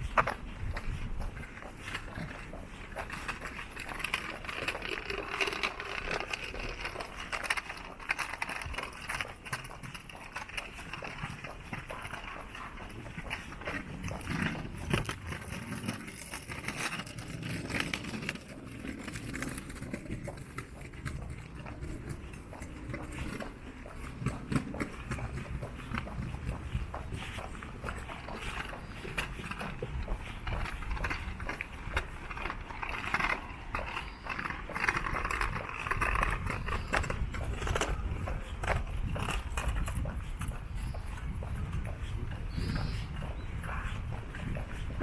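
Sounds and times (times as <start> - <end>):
footsteps walking: 0.0 - 45.0.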